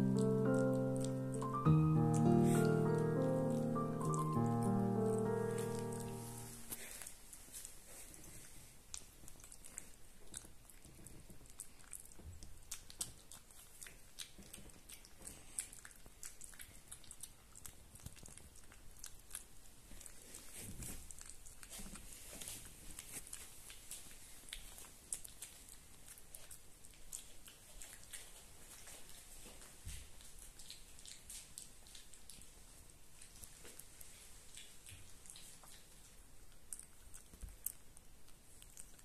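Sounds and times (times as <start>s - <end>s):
puppy chewing and smacking: 0.0s - 39.0s.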